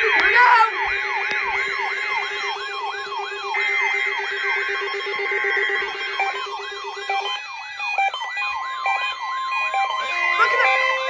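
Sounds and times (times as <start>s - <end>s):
rapid beeping: 0.0s - 11.0s
wailing alarm tone: 0.0s - 11.0s.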